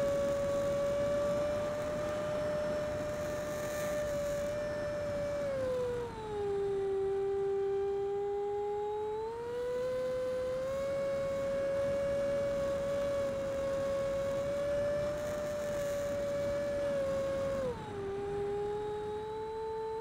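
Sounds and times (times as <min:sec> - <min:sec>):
electric ducted fan whining: 0:00.0 - 0:20.0.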